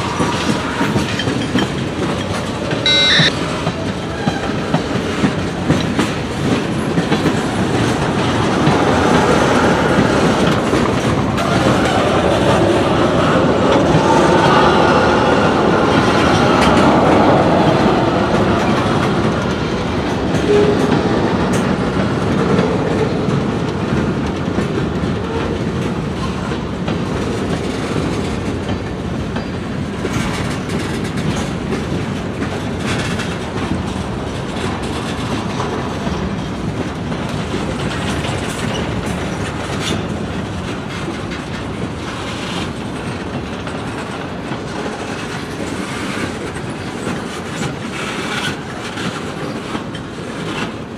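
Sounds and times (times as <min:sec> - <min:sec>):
freight train wheels clicking: 0:00.0 - 0:50.9
train rumble: 0:00.0 - 0:50.9.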